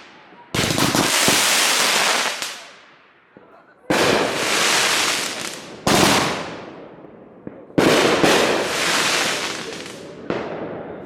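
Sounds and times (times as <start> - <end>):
firework crackle: 0.0 - 6.7, 7.6 - 11.0
firework bangs: 0.0 - 11.0.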